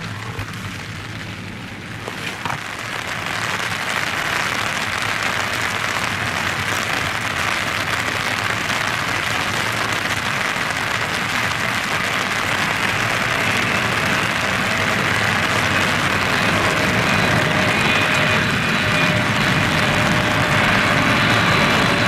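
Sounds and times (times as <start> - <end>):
rain heard from inside car: 0.0 - 17.8.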